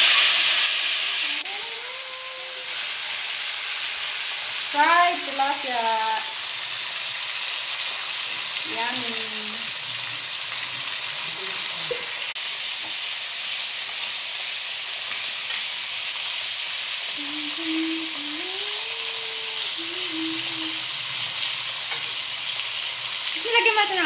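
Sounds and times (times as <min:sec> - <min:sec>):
fish frying in sizzling oil: 0:00.0 - 0:24.0.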